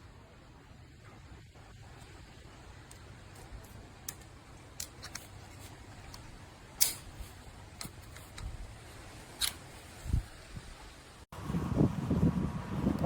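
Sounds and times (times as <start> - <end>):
low steady background: 0.0 - 13.0.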